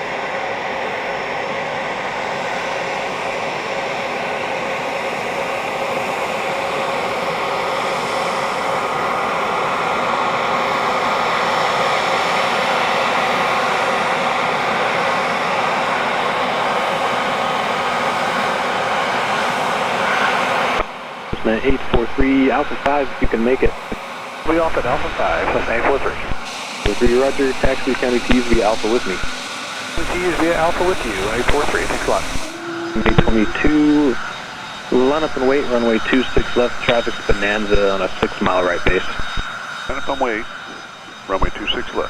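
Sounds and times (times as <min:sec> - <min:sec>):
small plane engine droning: 0:00.0 - 0:42.0.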